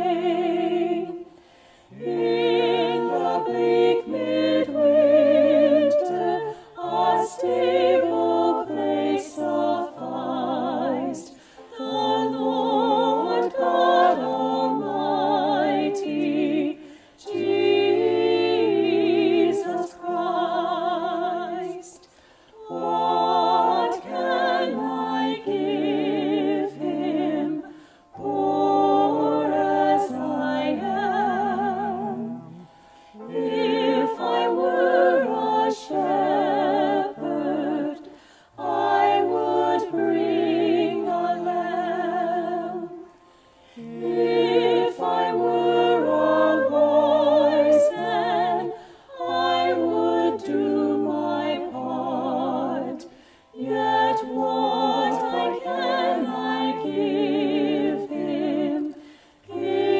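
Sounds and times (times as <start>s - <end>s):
group singing in harmony: 0.0s - 59.9s.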